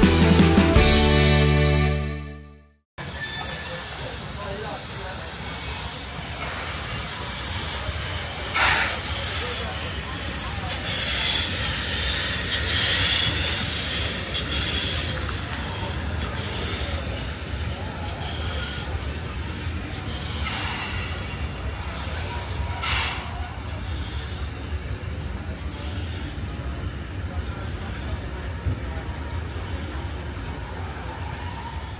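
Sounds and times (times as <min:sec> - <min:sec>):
steam locomotive chuffing: 0:03.0 - 0:31.9.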